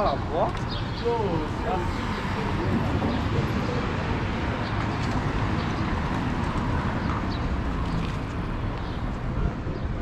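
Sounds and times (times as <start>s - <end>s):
city street traffic noise: 0.0s - 10.0s.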